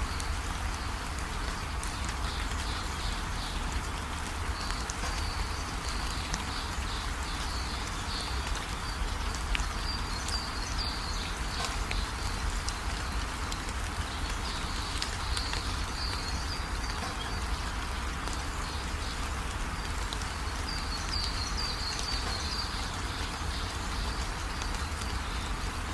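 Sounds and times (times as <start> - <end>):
birds chirping: 0.0 - 25.9
steady hiss and low rumble: 0.0 - 25.9.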